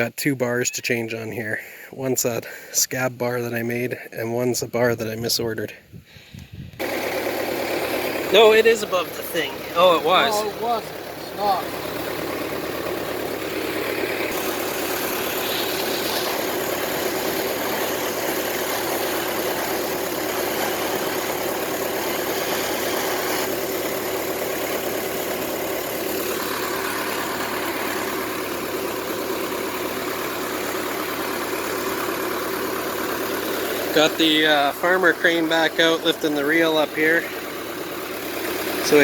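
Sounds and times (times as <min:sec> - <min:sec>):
engine idling: 0:03.4 - 0:39.0.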